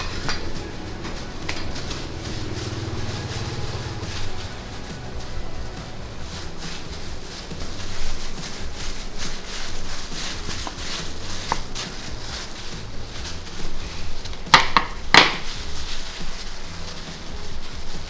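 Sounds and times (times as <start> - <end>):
rolling pin scraping dough: 0.0 - 18.0
steady low hum: 0.0 - 18.0.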